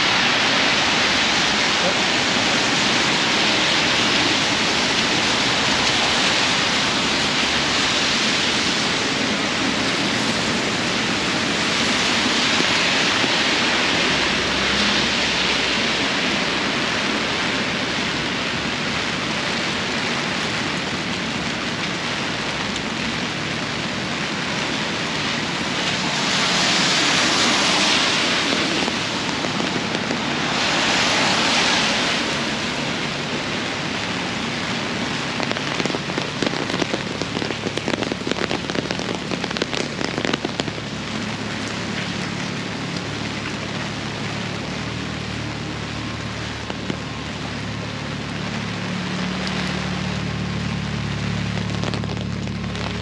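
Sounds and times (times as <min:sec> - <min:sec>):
heavy rain on an umbrella: 0:00.0 - 0:53.0.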